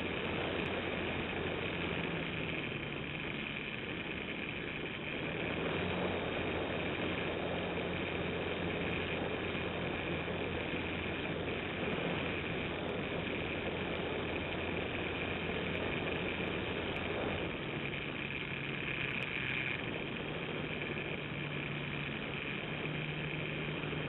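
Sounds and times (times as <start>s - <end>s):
model airplane motor and propeller: 0.0s - 24.0s.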